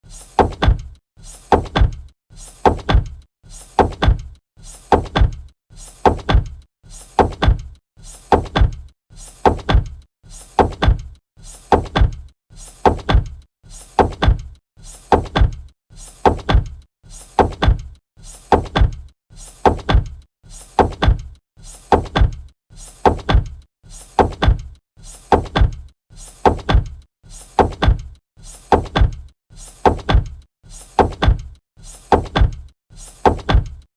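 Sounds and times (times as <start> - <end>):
robot mechanical thuds: 0.3 - 3.2, 3.8 - 6.6, 7.2 - 33.9.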